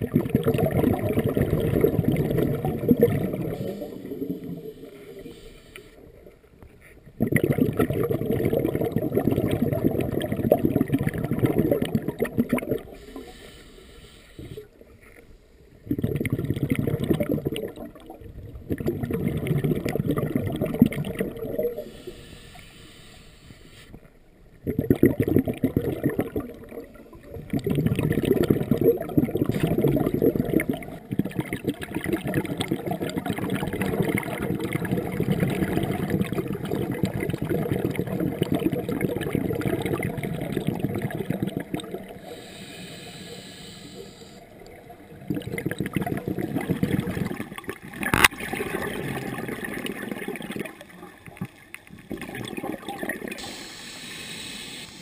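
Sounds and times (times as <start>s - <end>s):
underwater regulator bubbles gurgling: 0.0s - 15.1s, 15.8s - 55.0s.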